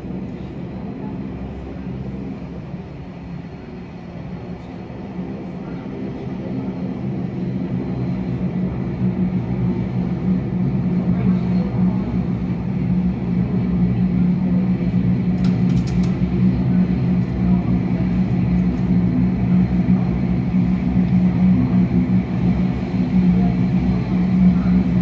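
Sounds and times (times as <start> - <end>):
aircraft and machinery drone: 0.0 - 25.0.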